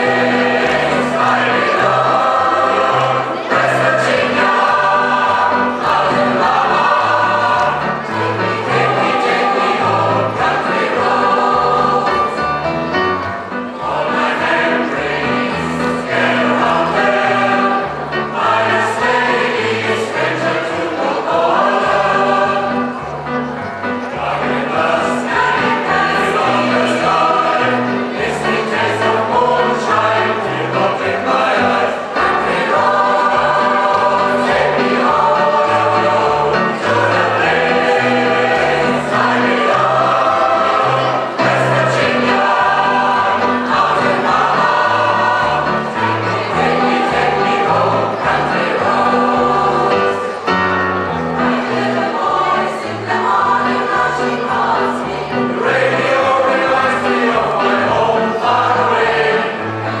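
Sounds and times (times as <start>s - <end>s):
large choir singing: 0.0s - 60.0s.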